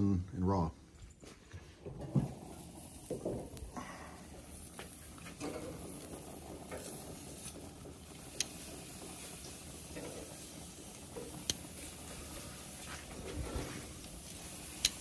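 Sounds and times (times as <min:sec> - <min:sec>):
steaks sizzling on a grill: 0:01.9 - 0:15.0.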